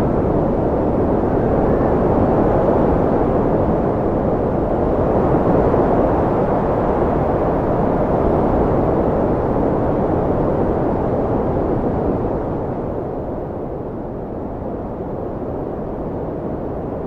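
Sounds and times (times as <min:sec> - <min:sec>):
wind blowing: 0:00.0 - 0:14.2.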